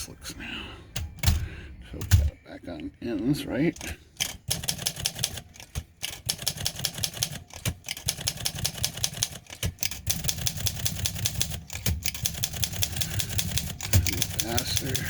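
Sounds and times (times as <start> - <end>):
manual typewriter typing: 1.0 - 2.3, 3.7 - 15.0.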